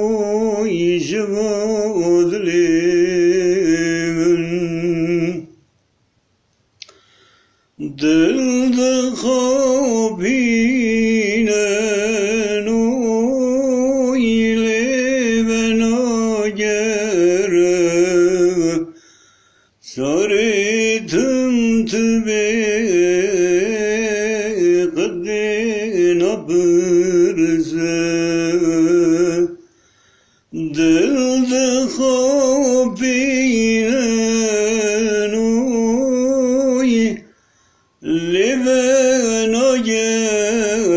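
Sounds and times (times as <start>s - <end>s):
man singing: 0.0s - 5.6s, 7.8s - 19.0s, 19.8s - 29.7s, 30.5s - 37.3s, 38.0s - 40.9s.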